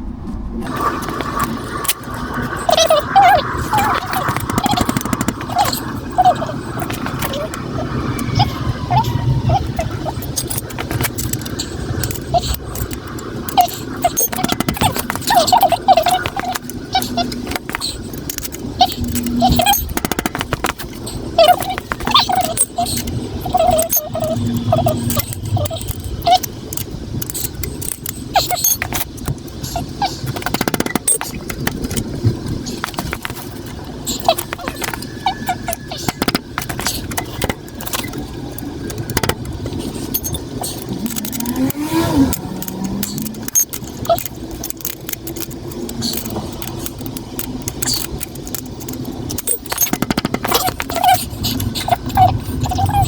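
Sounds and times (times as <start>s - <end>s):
metal tools clinking: 0.6s - 53.0s
ratchet clicking: 0.7s - 53.0s.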